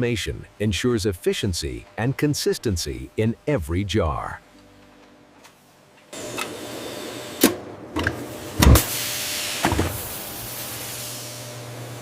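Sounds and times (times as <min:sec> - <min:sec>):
machinery low hum: 0:00.0 - 0:12.0.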